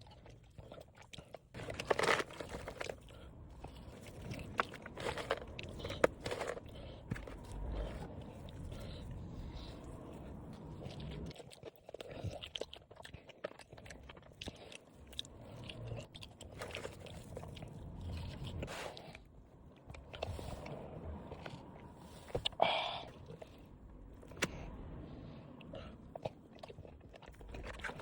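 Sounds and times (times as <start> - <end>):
person chewing crunchy food: 0.0 - 28.0.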